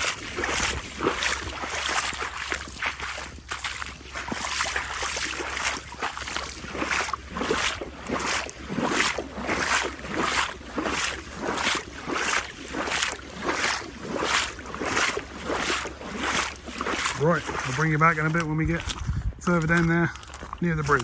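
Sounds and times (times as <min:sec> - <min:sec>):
boots splashing through water: 0:00.0 - 0:21.0.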